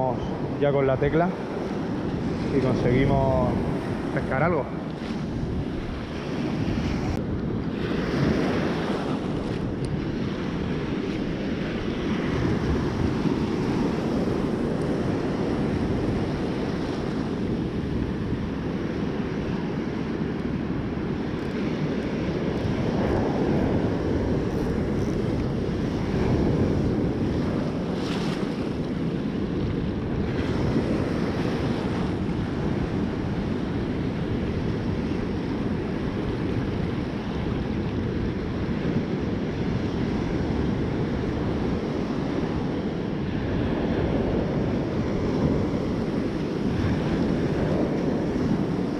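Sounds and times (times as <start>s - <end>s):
surf breaking on beach: 0.0s - 48.9s
wind buffeting microphone: 0.0s - 48.9s.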